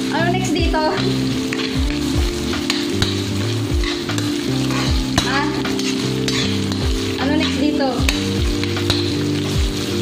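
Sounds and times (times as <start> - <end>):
food sizzling in hot oil: 0.0 - 10.0
low background music beat: 0.0 - 10.0
clicks and scrapes against wok: 1.0 - 9.6.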